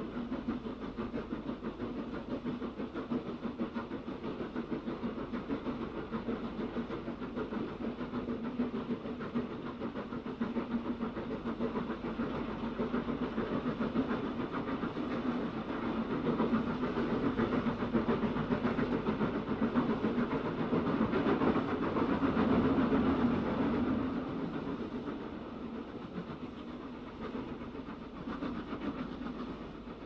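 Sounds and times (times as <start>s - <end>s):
steam locomotive exhaust beats: 0.0s - 30.0s.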